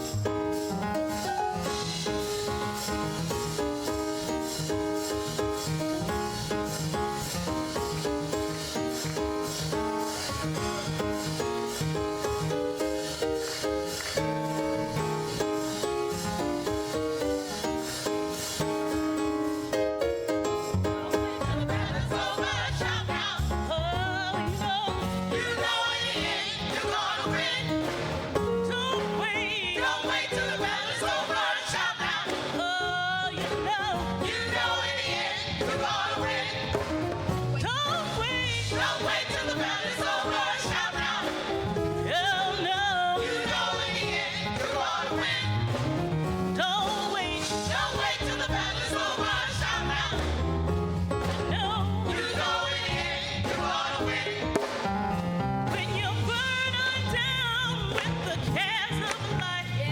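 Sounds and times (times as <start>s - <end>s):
instrumental backing with bass: 0.0s - 30.8s, 31.8s - 59.9s
gospel singing with vibrato: 0.8s - 59.9s.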